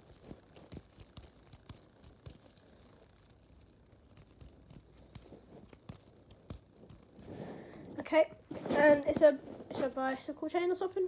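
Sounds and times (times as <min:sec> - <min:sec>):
fidget toy links clicking and rattling: 0:00.0 - 0:09.3, 0:10.7 - 0:11.0.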